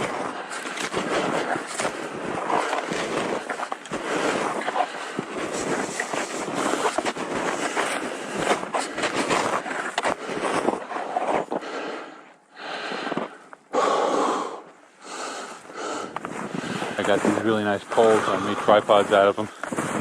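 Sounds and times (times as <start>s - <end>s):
footsteps crunching through snow: 0.0s - 11.8s, 15.2s - 20.0s.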